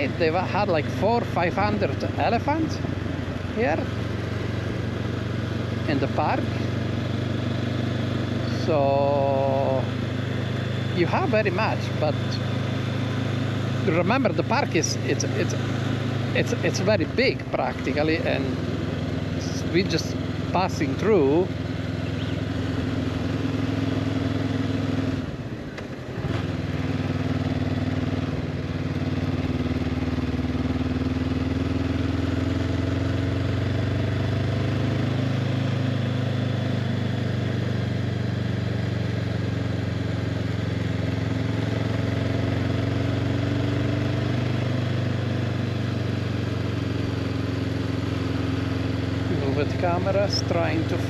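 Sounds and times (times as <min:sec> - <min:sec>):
motorcycle engine running: 0:00.0 - 0:51.0
road noise: 0:00.0 - 0:51.0.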